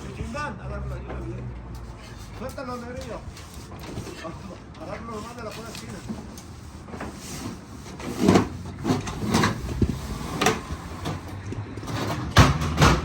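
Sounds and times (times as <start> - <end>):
roofing material knocking and scraping: 1.1 - 13.0.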